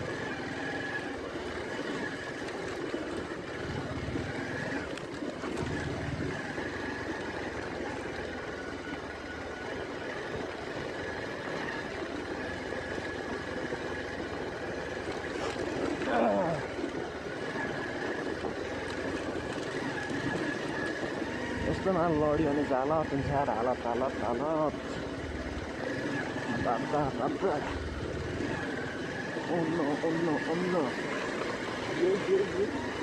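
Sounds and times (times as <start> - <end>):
motorcycle engine low rumble: 0.0 - 33.0.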